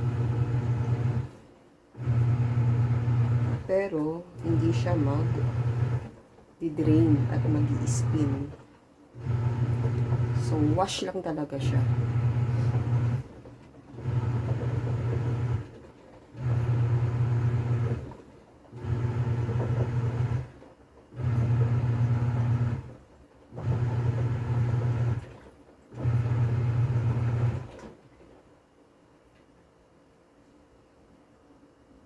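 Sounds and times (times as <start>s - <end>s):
washing machine motor humming: 0.0s - 28.4s.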